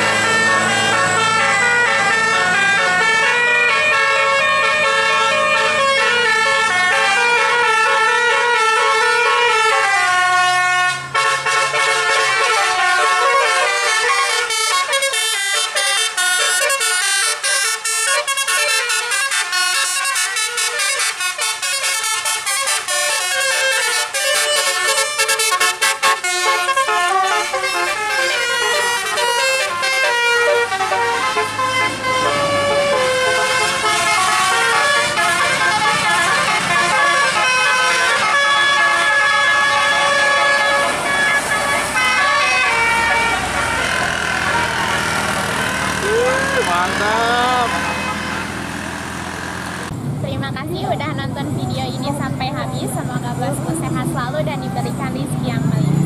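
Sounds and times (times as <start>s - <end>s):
bus horns playing melodies: 0.0s - 50.0s.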